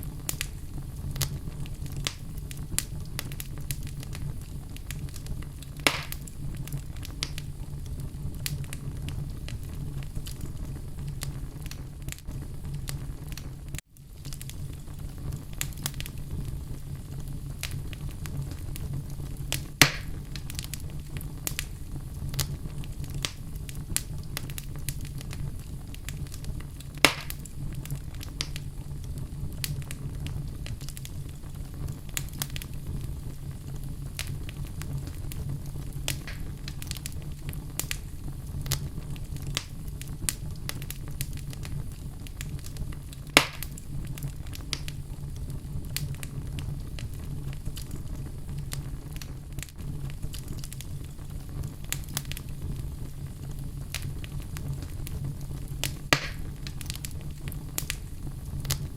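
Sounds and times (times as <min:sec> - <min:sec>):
fire crackling: 0:00.0 - 0:58.9
loud sharp pops from fire: 0:00.0 - 0:58.9.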